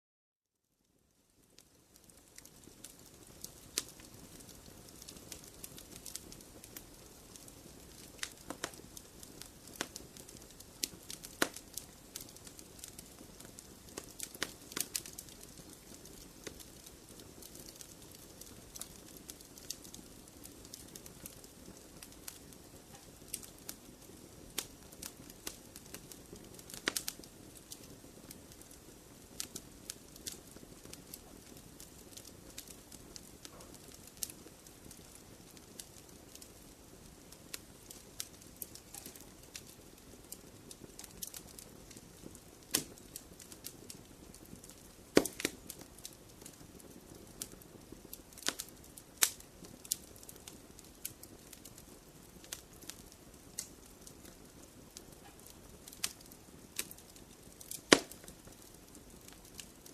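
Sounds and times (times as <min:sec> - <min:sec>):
campfire crackling and popping: 0:01.2 - 0:59.9.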